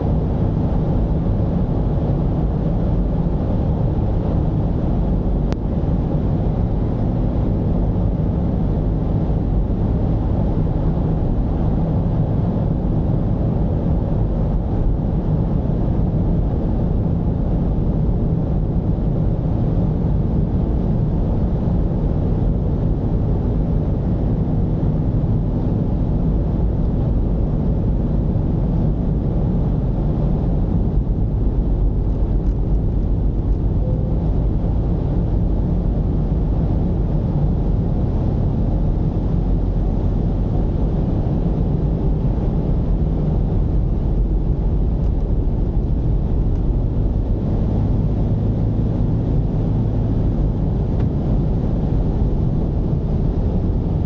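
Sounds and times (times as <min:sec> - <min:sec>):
diesel engine rumbling: 0:00.0 - 0:54.0
road noise: 0:00.0 - 0:54.0.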